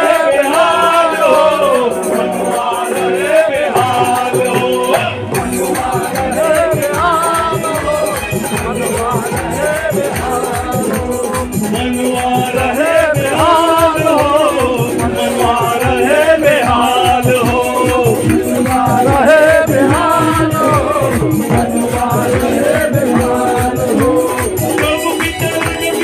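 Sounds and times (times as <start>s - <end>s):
drum beat: 0.0s - 26.0s
group of voices singing: 0.0s - 26.0s
harmonium: 0.0s - 26.0s
rattling hand percussion: 0.0s - 26.0s.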